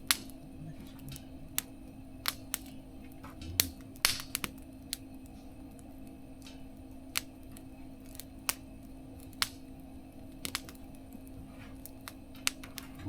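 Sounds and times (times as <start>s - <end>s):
faint steady hum: 0.0s - 13.0s
firewood crackling and popping: 0.0s - 13.0s.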